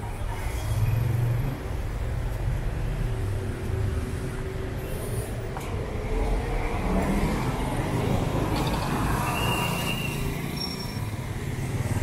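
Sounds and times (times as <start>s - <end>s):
low rumble of city street: 0.0s - 12.0s.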